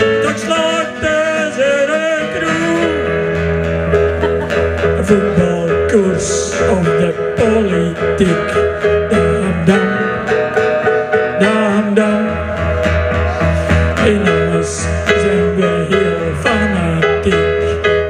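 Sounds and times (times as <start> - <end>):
man singing: 0.0 - 3.5, 4.6 - 18.0
acoustic guitar strummed: 0.0 - 18.0
low bass: 2.4 - 18.0.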